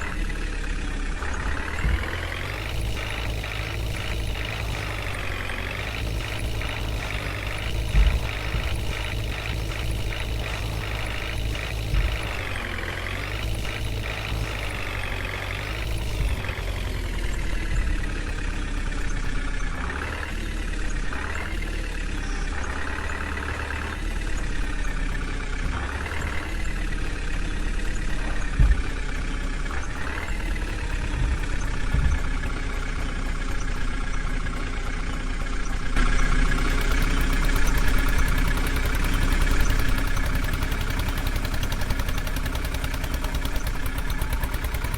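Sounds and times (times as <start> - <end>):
heavy diesel engine revving: 0.0 - 44.9.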